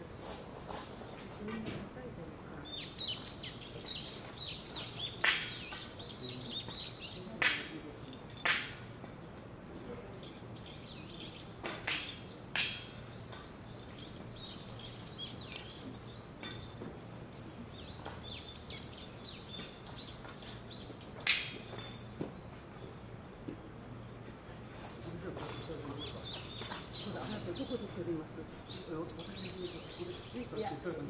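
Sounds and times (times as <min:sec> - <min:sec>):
small birds chirping: 0:00.0 - 0:09.2, 0:09.8 - 0:23.2, 0:24.0 - 0:31.0.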